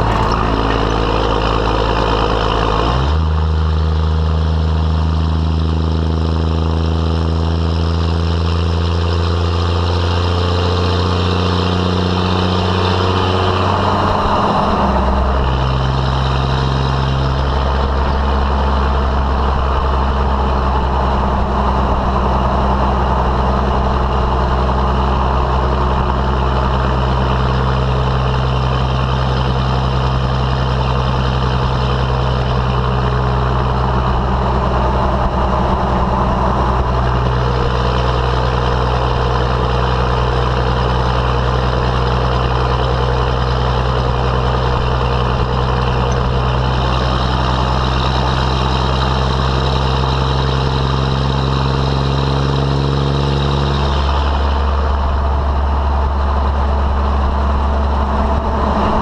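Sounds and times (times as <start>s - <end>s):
diesel truck exhaust: 0.0s - 59.0s.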